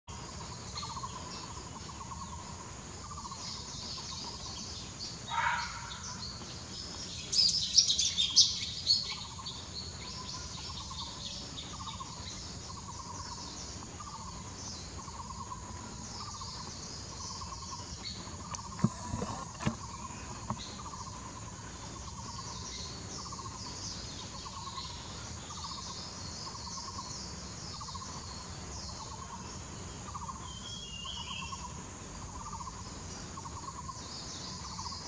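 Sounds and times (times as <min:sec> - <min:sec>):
bulbuls chattering calls: 0:00.2 - 0:35.0.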